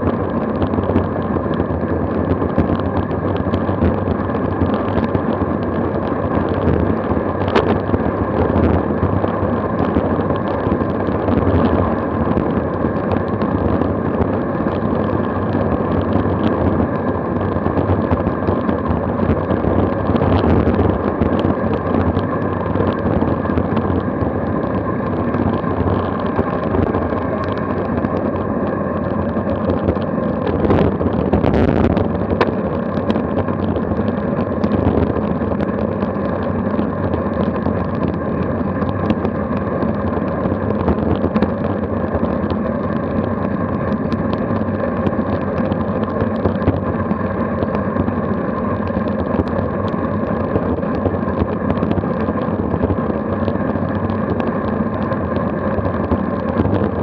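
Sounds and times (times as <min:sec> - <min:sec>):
tyre noise on asphalt: 0:00.0 - 0:57.0
wind rush on microphone: 0:00.0 - 0:57.0.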